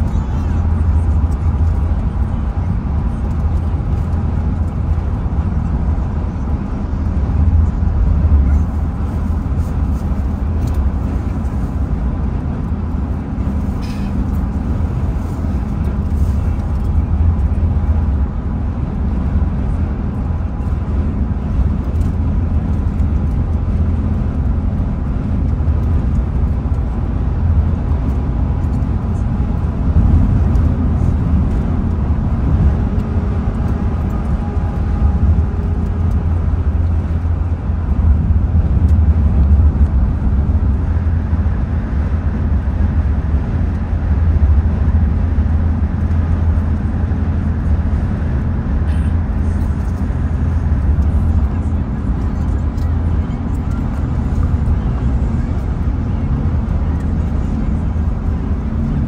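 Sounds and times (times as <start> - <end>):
car road noise at highway speed: 0.0 - 59.0.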